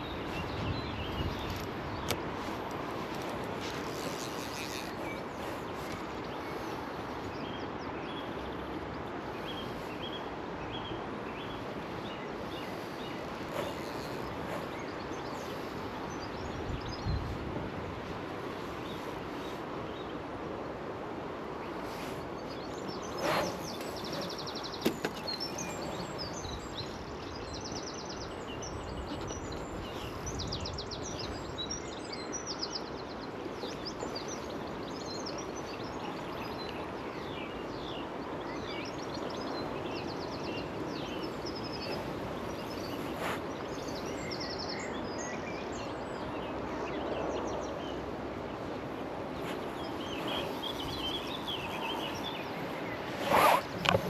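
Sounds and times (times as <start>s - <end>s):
small birds chirping: 0.0s - 17.4s, 21.6s - 54.0s.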